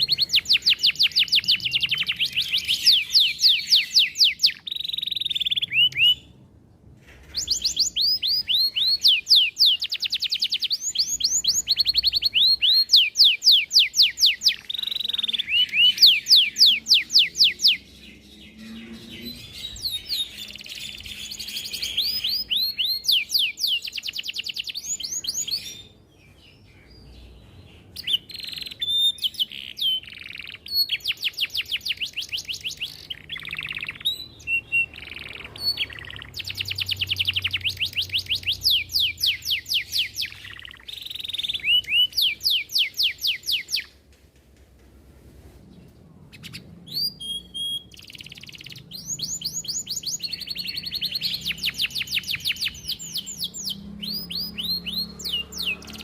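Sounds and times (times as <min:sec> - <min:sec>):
canary singing trills: 0:00.0 - 0:06.4, 0:07.2 - 0:44.0, 0:46.3 - 0:56.0.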